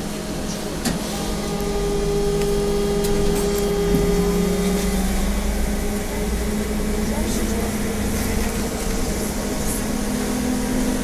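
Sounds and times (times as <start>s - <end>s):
low ride rumble: 0.0s - 11.0s.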